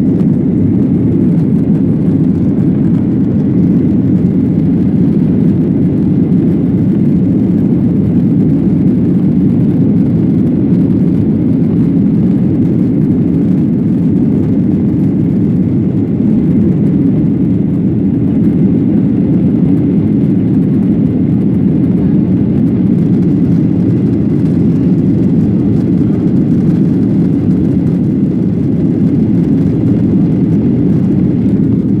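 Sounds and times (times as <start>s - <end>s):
airliner cabin engine noise: 0.0s - 32.0s.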